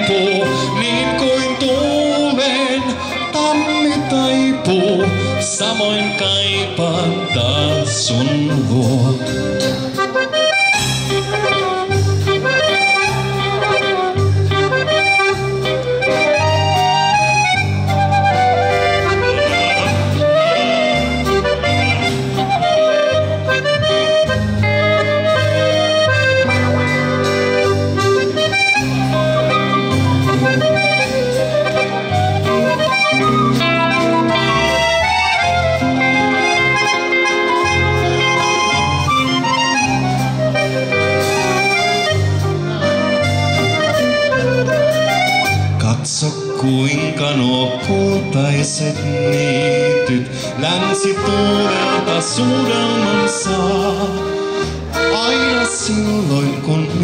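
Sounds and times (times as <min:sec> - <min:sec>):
flute: 0:00.0 - 0:54.2
accordion: 0:00.0 - 0:57.0
drums: 0:00.0 - 0:57.0
electric guitar: 0:00.0 - 0:57.0.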